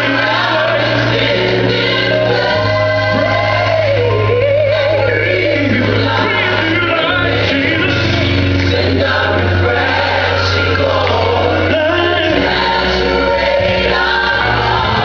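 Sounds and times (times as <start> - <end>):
gospel choir singing: 0.0 - 15.0
held bass notes: 0.0 - 15.0.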